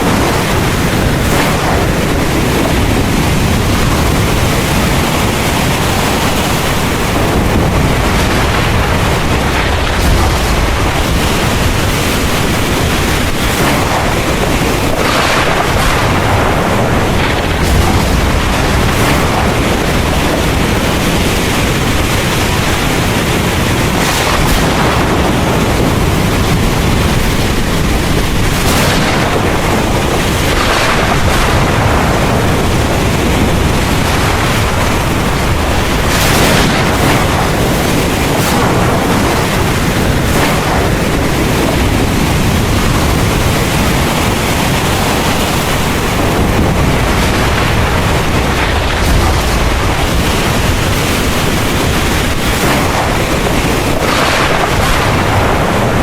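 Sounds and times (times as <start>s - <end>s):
heavy rain pouring: 0.0s - 56.0s
thunder rumbling: 0.0s - 56.0s.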